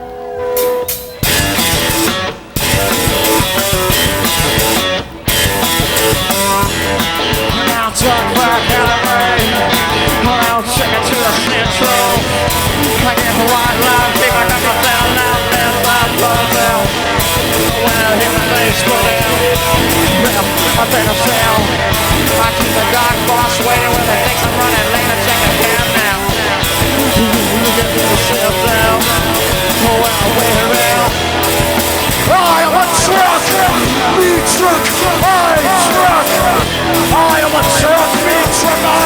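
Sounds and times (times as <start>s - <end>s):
rock band playing: 0.0s - 39.0s.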